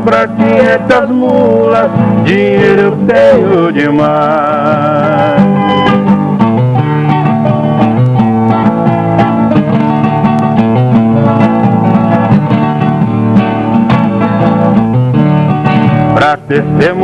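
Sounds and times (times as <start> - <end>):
acoustic strings plucked and strummed: 0.0 - 17.0.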